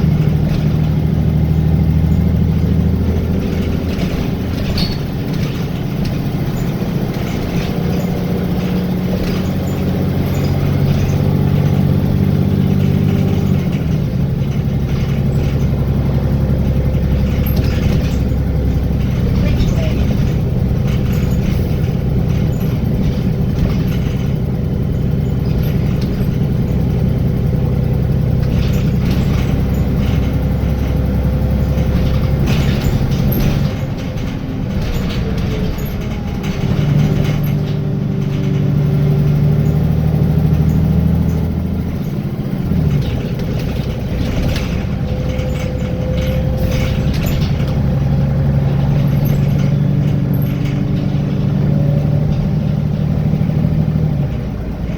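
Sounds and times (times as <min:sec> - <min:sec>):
bus diesel engine running: 0:00.0 - 0:54.9
clicking and rattling: 0:00.0 - 0:54.9.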